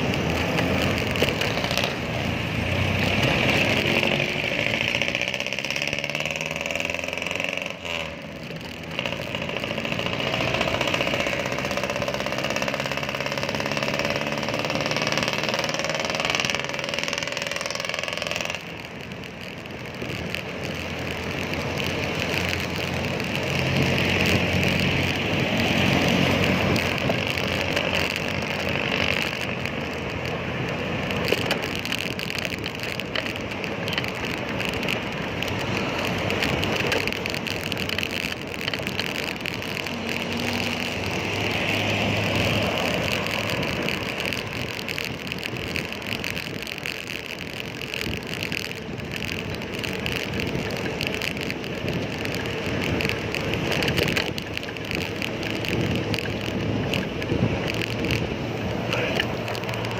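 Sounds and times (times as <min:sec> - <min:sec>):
bicycle road noise: 0:00.0 - 0:59.9
vehicle engines passing: 0:00.0 - 0:59.9.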